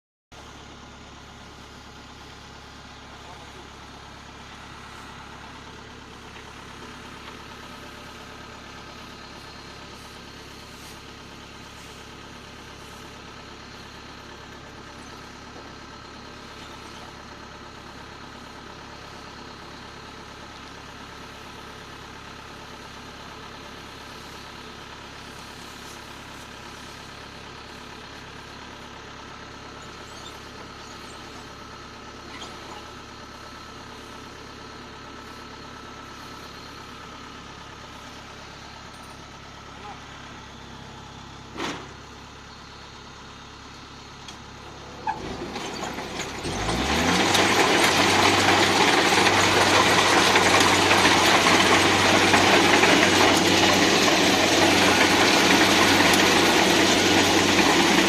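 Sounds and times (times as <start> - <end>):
harvesting machine engine running: 0.4 - 58.0.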